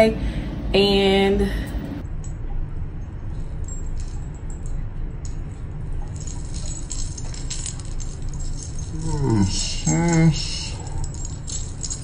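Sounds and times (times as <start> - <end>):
steady low hum: 0.0 - 12.0
metal bangles jingling: 1.7 - 12.0.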